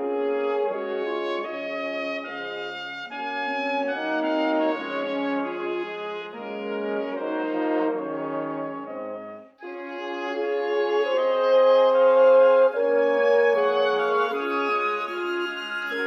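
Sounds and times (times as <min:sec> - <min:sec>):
brass instruments playing slow chords: 0:00.0 - 0:16.0.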